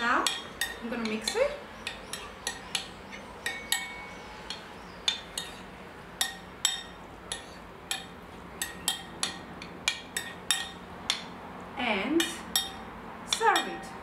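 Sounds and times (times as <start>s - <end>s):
utensil clinking against a bowl: 0.0s - 11.3s, 12.2s - 14.0s.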